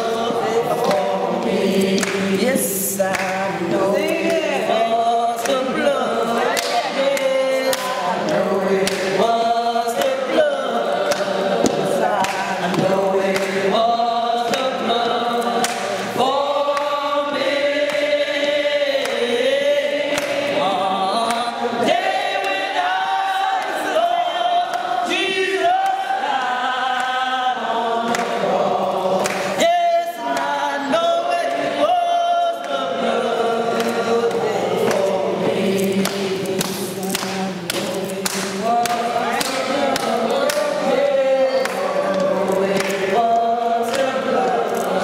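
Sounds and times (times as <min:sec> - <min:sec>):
choir singing a hymn: 0:00.0 - 0:45.0.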